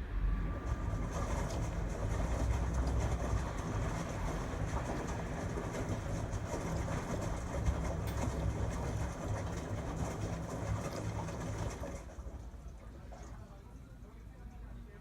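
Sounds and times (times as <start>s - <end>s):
washing machine rumbling: 0.0s - 15.0s.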